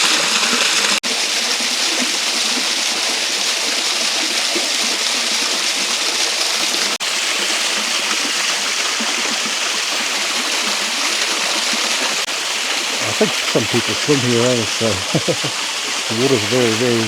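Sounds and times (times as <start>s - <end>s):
waterfall pouring: 0.0s - 17.0s.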